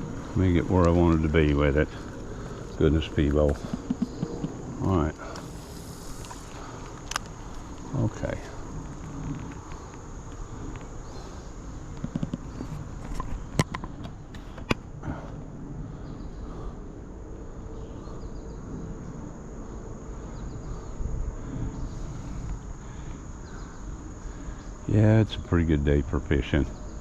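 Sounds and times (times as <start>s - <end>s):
low rumble: 0.0s - 25.1s
insects trilling: 0.0s - 27.0s.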